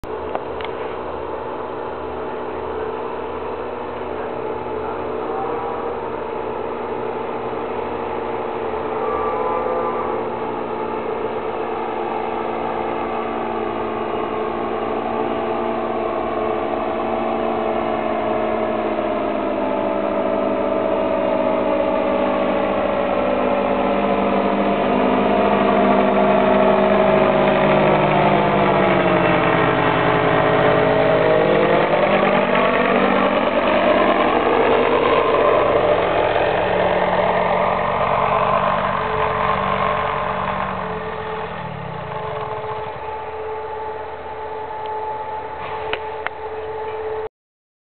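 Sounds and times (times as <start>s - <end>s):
paramotor engine droning: 0.0s - 47.3s.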